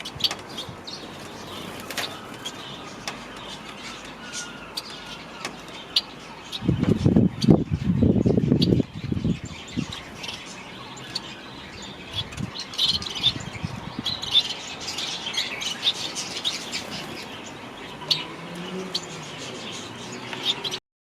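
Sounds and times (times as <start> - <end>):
birds chirping and twittering: 0.0 - 20.8.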